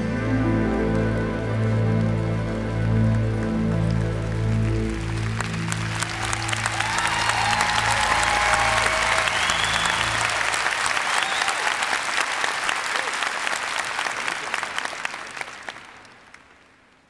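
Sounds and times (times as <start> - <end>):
audience applauding: 1.9 - 17.0.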